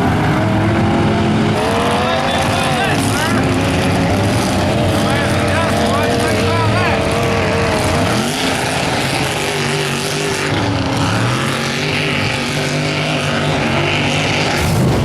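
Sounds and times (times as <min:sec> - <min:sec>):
truck engine revving high: 0:00.0 - 0:15.0.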